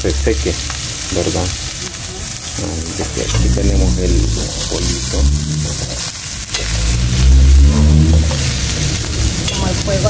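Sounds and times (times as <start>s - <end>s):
chicken sizzling in a pan: 0.0s - 10.0s
low rumble: 0.0s - 10.0s.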